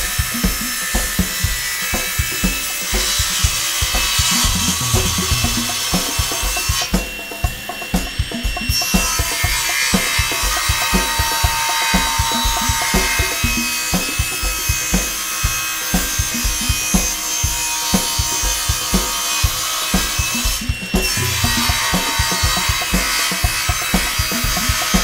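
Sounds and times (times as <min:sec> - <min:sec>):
background music with drum beat: 0:00.0 - 0:25.0
table saw cutting wood: 0:00.0 - 0:25.0.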